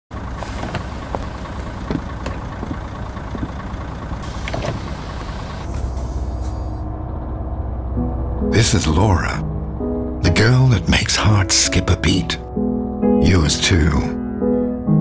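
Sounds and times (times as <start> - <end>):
bus engine idling: 0.1 - 12.5.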